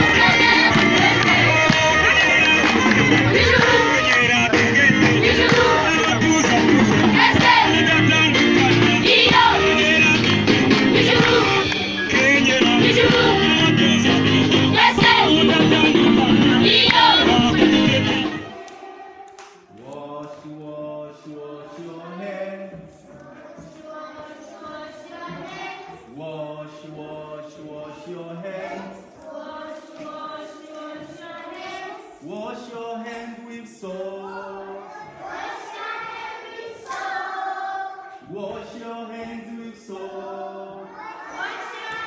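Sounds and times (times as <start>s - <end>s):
children singing in unison: 0.0s - 32.5s, 33.8s - 38.3s, 39.2s - 42.0s
crowd singing loudly: 0.0s - 42.0s.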